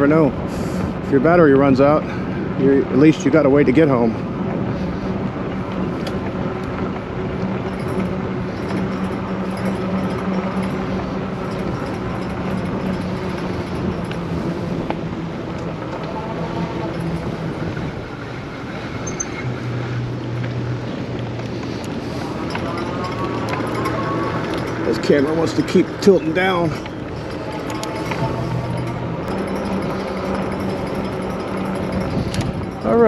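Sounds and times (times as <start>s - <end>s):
electric bike motor hum: 0.0s - 33.0s
wind noise: 0.0s - 33.0s.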